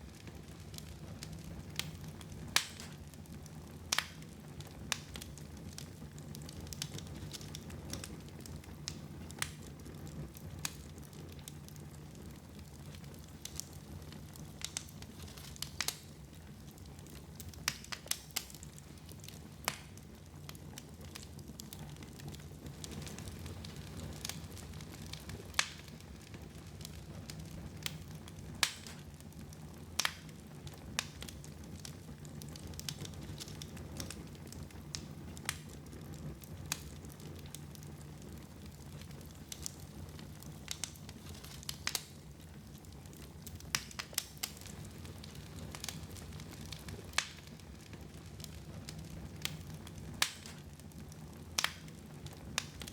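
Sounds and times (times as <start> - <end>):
fire crackles and pops: 0.0 - 52.9
fire low rumble: 0.0 - 52.9.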